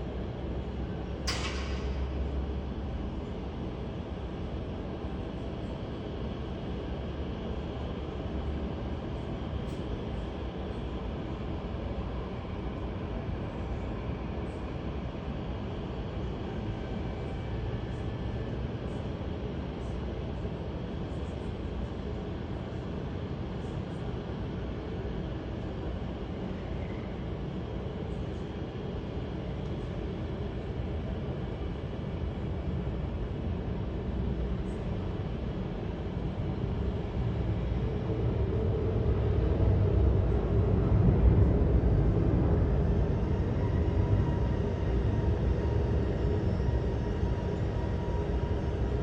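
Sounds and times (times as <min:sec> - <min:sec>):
jet engines at take-off power: 0:00.0 - 0:49.0.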